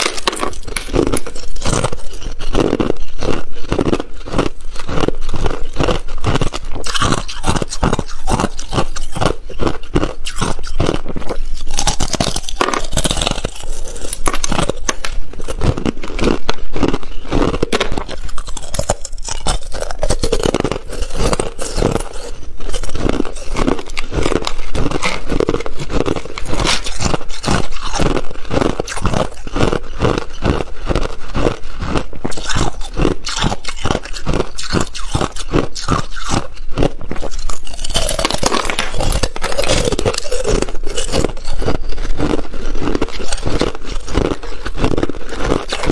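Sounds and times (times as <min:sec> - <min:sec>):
ice crunching being chewed: 0:00.0 - 0:45.9.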